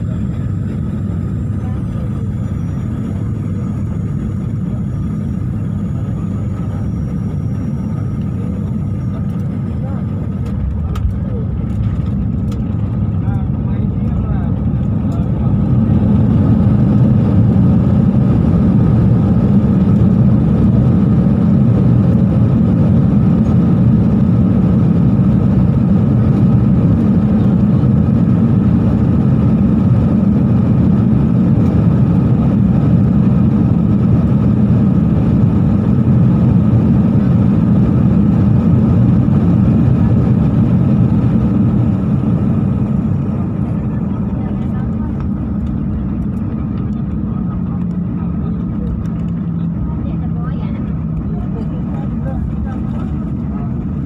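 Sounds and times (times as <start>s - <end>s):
jet engines and wheels roaring: 0.0s - 54.0s.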